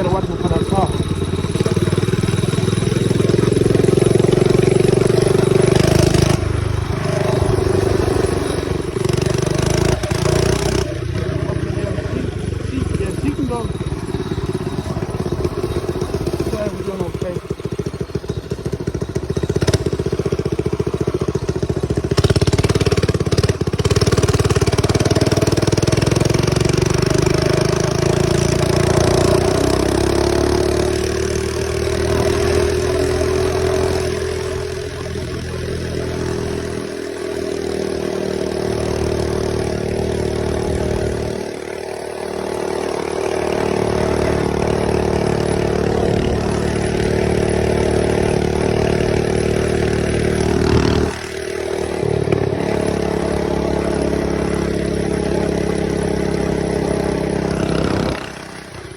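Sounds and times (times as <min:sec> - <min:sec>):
mini bike engine running: 0:00.0 - 0:58.9.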